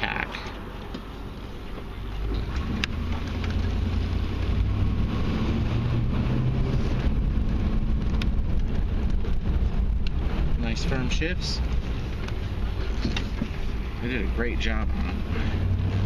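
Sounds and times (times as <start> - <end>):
truck engine accelerating: 0.0 - 16.0.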